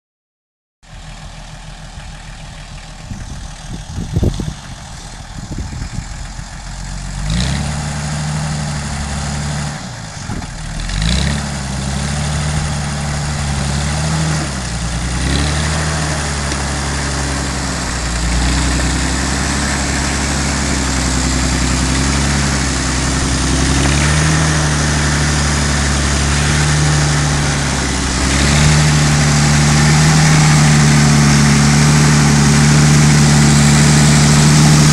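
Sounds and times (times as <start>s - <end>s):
tractor engine running: 0.8s - 34.9s.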